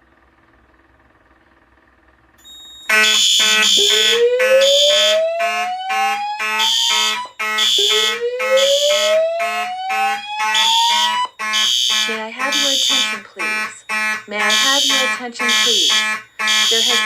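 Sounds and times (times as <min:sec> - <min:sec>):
buzzy fire alarm horns: 0:02.8 - 0:17.0
slow-whoop evacuation tone: 0:02.9 - 0:17.0.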